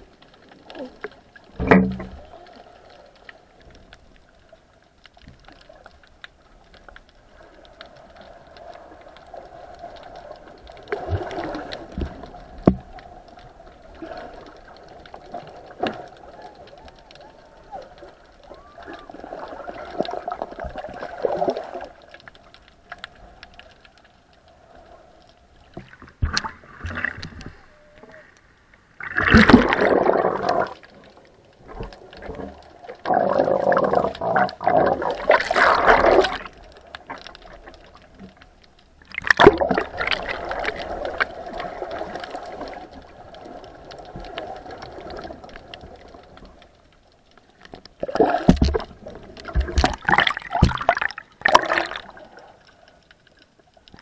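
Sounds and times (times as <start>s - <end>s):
muffled underwater water sloshing: 0.0s - 54.0s.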